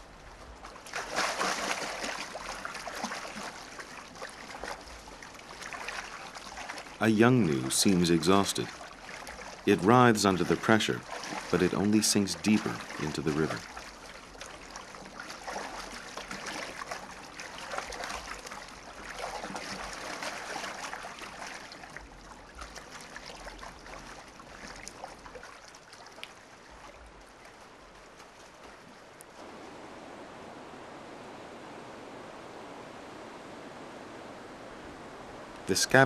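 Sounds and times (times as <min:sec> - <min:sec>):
water splashing and churning: 0:00.0 - 0:31.9.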